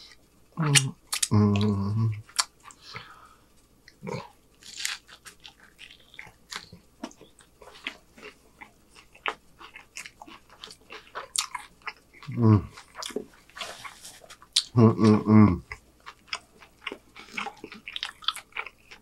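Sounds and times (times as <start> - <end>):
person chewing food: 0.1 - 3.2, 3.8 - 19.0.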